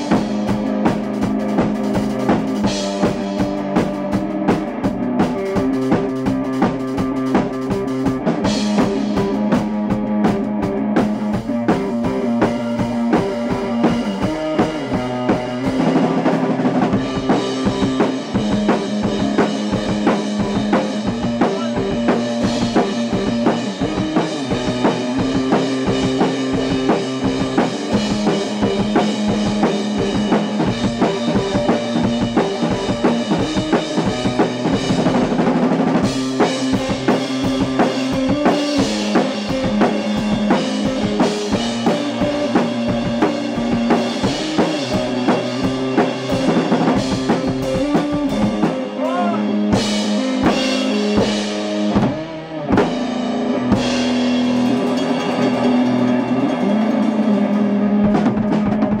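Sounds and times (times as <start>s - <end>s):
drum kit beat: 0.0s - 59.0s
electric guitar chords: 0.0s - 59.0s.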